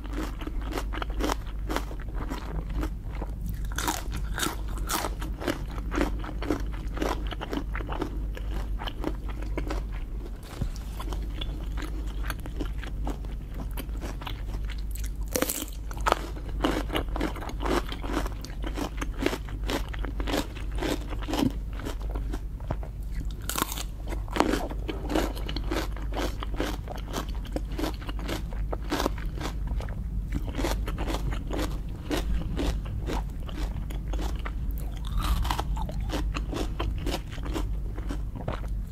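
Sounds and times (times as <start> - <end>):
chewing and crunching lobster: 0.0 - 38.9.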